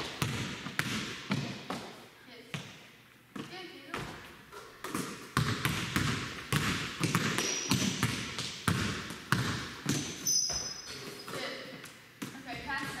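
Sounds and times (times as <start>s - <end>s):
basketball bouncing on wood floor: 0.0s - 13.0s.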